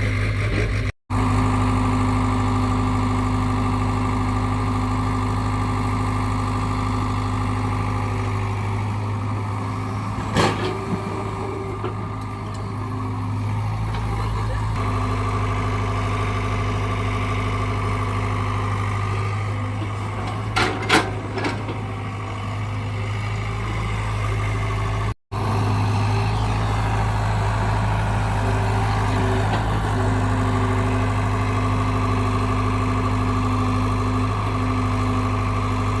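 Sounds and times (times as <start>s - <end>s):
diesel engine idling: 1.1s - 36.0s.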